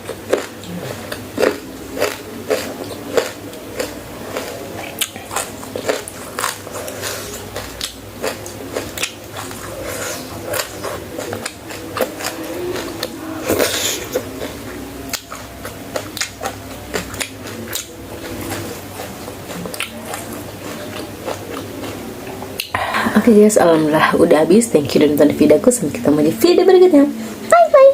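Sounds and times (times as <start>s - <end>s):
chewing with crunches: 0.0s - 22.8s.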